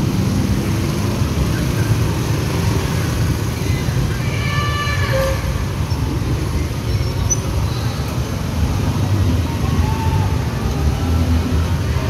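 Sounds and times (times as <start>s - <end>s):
motorbike engines rumbling: 0.0s - 12.0s.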